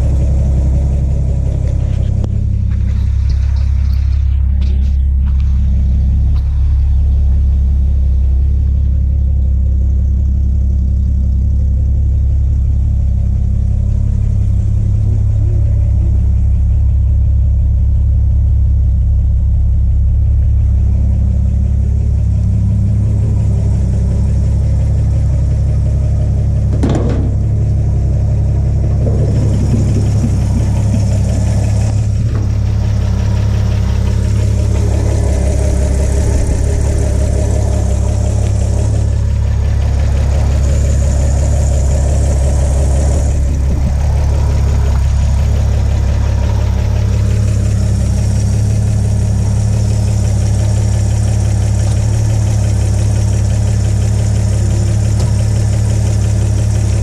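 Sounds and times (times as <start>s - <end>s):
pickup engine idling: 0.0s - 57.0s.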